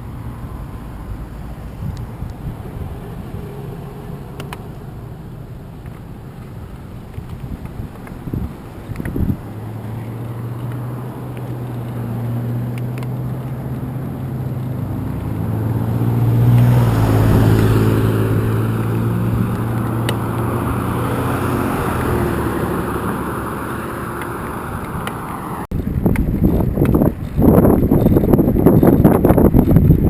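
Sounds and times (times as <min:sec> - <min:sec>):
vehicle passing by: 0:00.0 - 0:25.7
wind buffeting microphone: 0:00.0 - 0:30.0.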